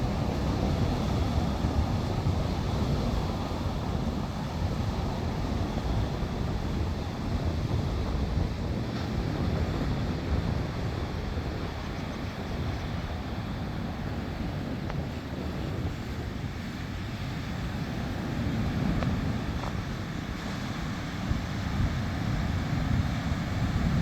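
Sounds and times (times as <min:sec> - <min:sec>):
sea surf washing onto beach: 0:00.0 - 0:24.0
wind buffeting microphone: 0:00.0 - 0:24.0.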